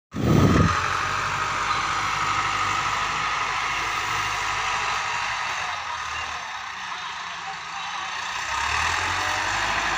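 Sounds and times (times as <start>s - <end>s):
distant tractor diesel engine: 0.1s - 9.9s.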